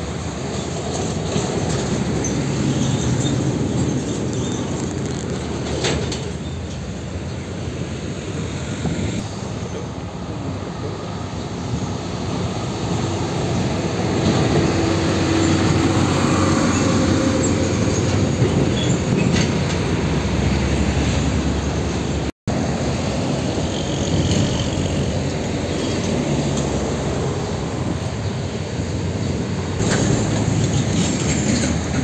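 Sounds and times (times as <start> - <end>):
heavy diesel trucks passing: 0.0 - 32.0.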